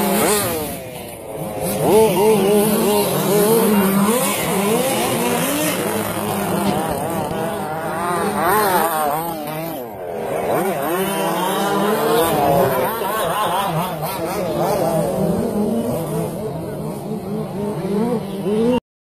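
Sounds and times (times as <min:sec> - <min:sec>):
rc truck motors revving: 0:00.0 - 0:18.8.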